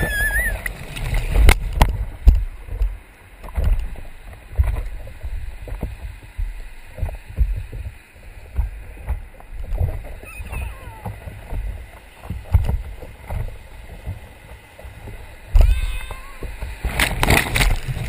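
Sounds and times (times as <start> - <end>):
water slapping against board: 0.0 - 18.0
whitewater splashing: 0.0 - 18.0.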